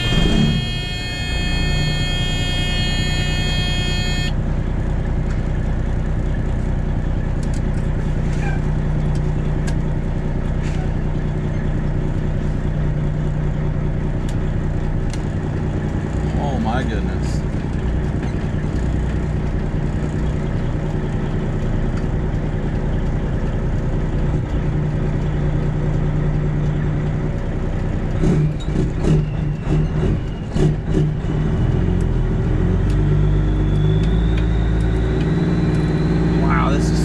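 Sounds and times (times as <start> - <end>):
truck diesel engine running: 0.0 - 37.0.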